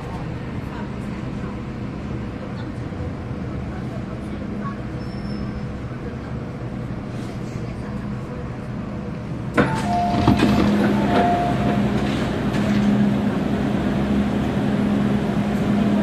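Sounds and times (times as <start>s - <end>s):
train running hum: 0.0s - 16.0s.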